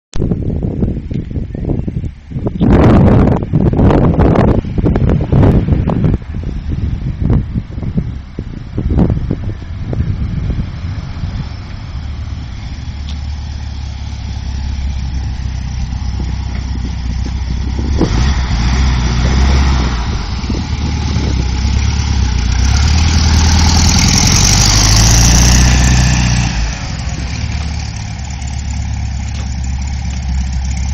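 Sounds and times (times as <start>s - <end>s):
car engine under way: 3.8s - 30.9s.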